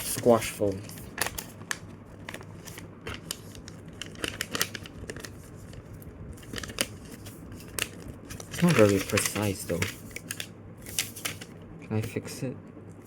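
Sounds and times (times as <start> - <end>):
paper crinkling and rustling: 0.0 - 12.2.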